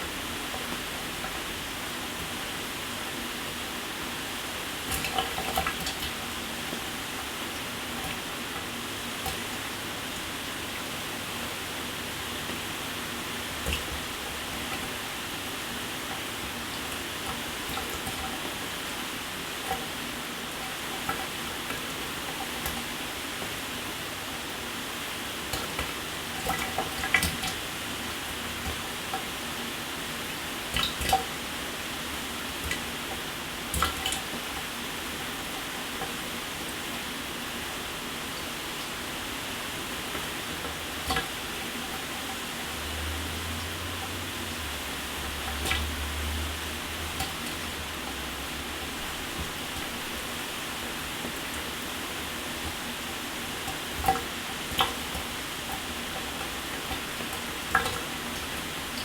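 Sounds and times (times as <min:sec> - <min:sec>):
water drips and splashes: 0:04.7 - 0:37.2, 0:37.9 - 0:59.0.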